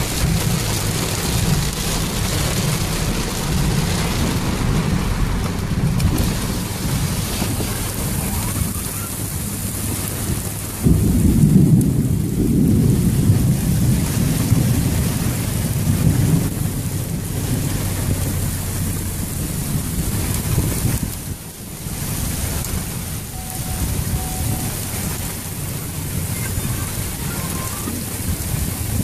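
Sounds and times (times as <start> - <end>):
rain falling: 0.0 - 29.0
thunder rumbling: 0.0 - 29.0.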